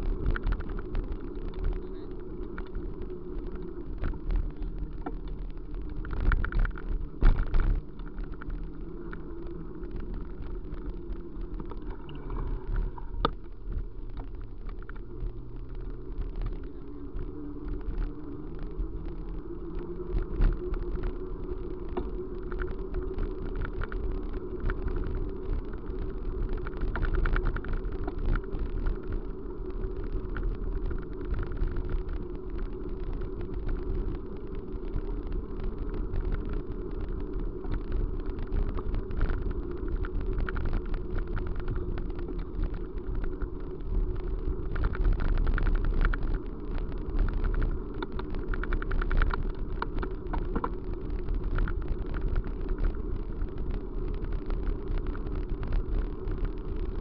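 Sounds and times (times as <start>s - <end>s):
moving vehicle running noise: 0.0s - 57.0s.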